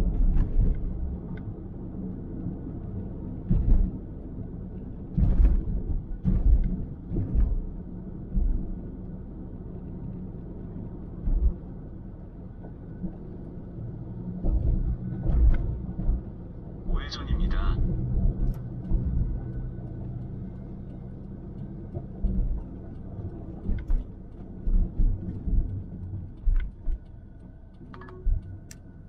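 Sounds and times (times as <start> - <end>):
low road rumble in car: 0.0 - 29.0.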